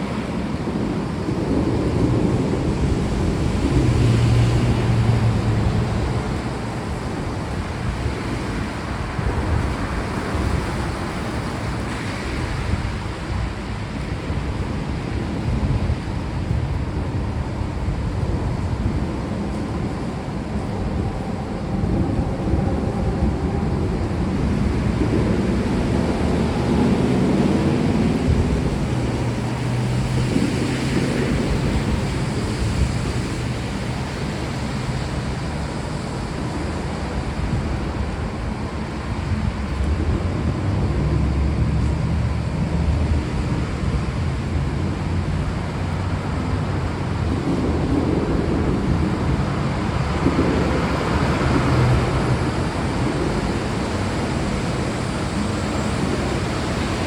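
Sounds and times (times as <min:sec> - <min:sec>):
distant thunder rumbling: 0:00.0 - 0:57.0.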